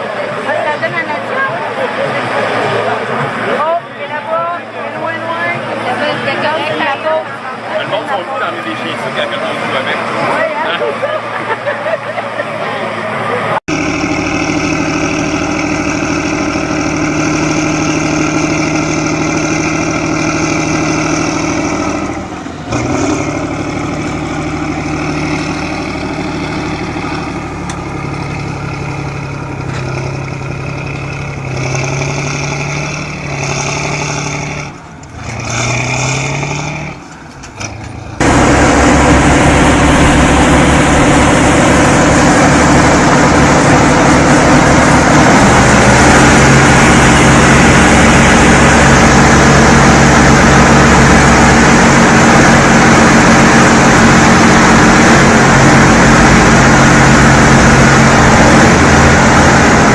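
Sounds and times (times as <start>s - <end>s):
rough engine rumble: 0.0s - 59.9s
vehicle engines revving: 0.0s - 59.9s.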